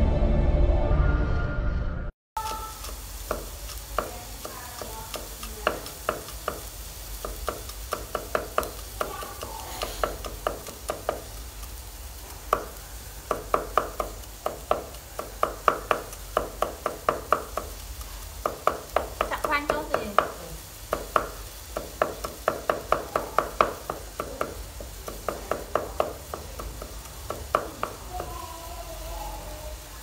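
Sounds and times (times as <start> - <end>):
oil ticking and popping: 2.4 - 29.5
oil hissing in wok: 2.4 - 30.0.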